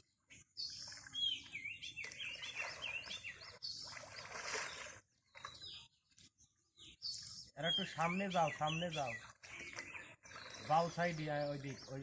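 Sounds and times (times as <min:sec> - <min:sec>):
small bird chirping: 0:00.3 - 0:12.0.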